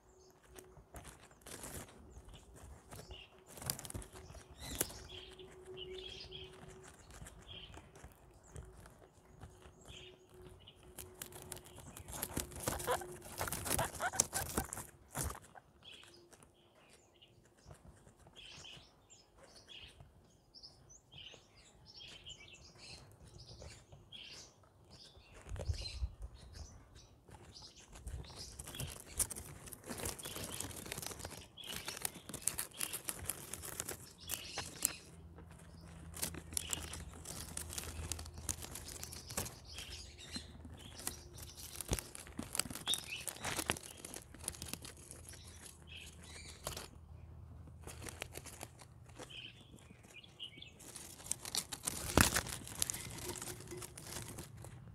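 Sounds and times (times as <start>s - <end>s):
guinea pigs chewing plants: 0.0s - 54.9s.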